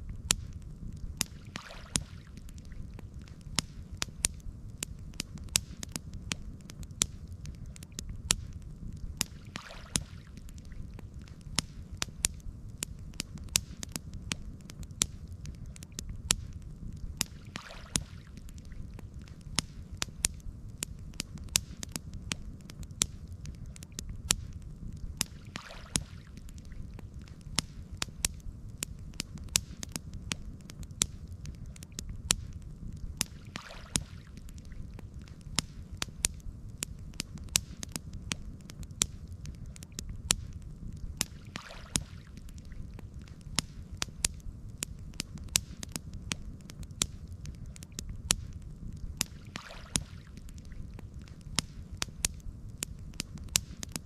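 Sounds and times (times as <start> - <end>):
campfire crackling and popping: 0.0 - 54.0
low steady rumble: 0.0 - 54.0.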